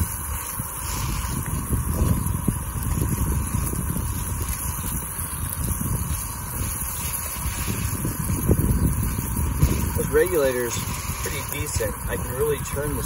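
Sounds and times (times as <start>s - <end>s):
bacon sizzling: 0.0s - 13.0s
gas stove roaring: 0.0s - 13.0s.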